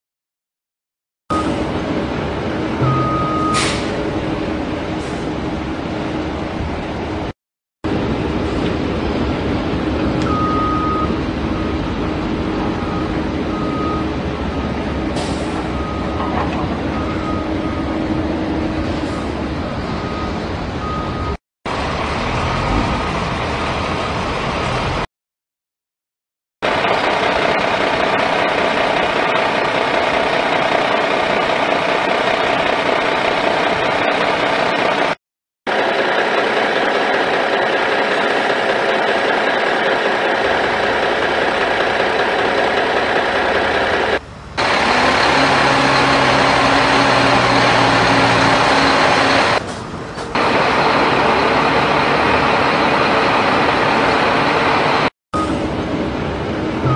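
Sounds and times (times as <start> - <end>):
dump truck engine: 1.3 - 7.3, 7.9 - 25.1, 26.6 - 56.9
excavator diesel engine: 1.3 - 7.3, 7.9 - 25.1, 26.6 - 56.9.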